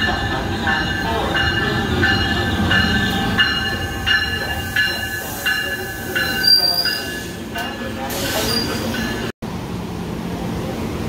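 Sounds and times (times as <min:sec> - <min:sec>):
locomotive bell ringing: 0:00.0 - 0:09.4.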